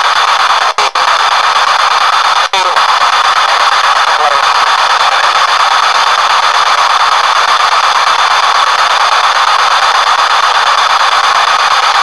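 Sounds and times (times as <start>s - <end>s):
radio static sweeping: 0.0s - 12.0s.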